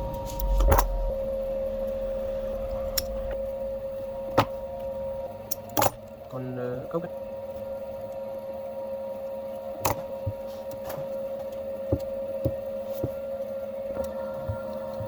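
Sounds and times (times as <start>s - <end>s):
steady electric hum: 0.0s - 15.0s.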